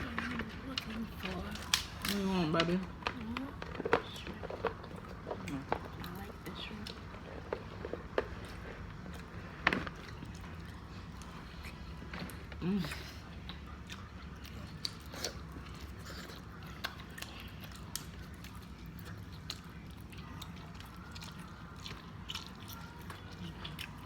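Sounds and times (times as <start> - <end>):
crunching and chewing shells: 0.0 - 24.0
low steady hum: 0.0 - 24.0.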